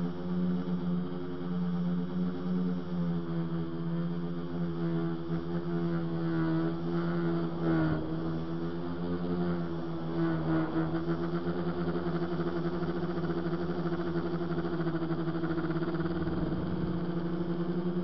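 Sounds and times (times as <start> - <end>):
drone motors and propellers humming: 0.0 - 18.0.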